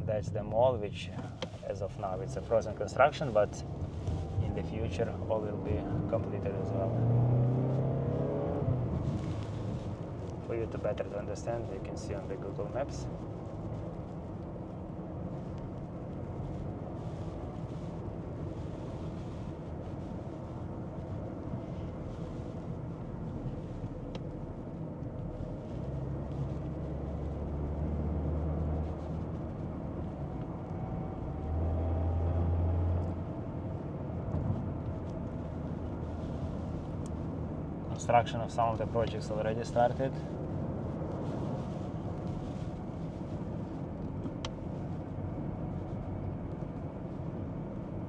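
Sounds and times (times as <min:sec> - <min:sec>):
car road and engine rumble: 0:00.0 - 0:48.0.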